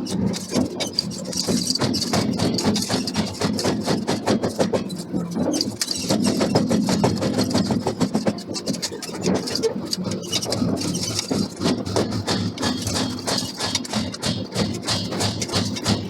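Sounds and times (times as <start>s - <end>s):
forging machinery clattering: 0.1s - 16.0s.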